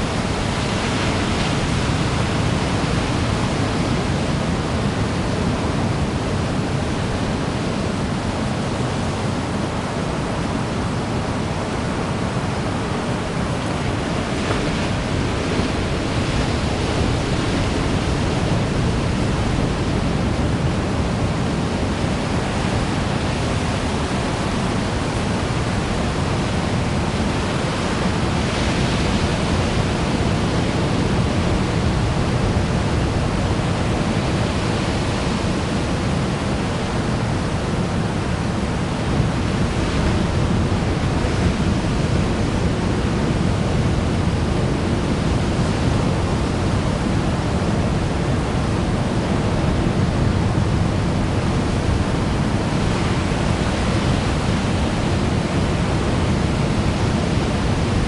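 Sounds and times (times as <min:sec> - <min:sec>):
ocean surf breaking: 0:00.0 - 0:58.0.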